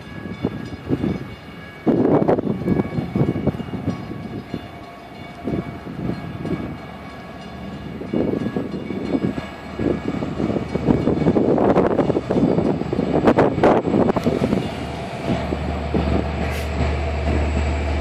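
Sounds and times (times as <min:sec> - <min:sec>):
diesel train rumbling: 0:00.0 - 0:18.0.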